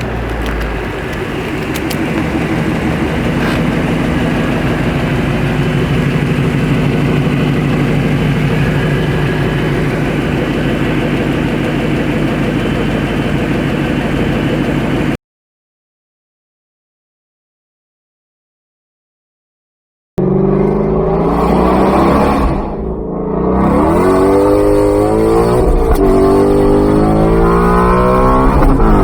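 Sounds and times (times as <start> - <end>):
car engine running: 0.0 - 15.2, 20.2 - 29.0.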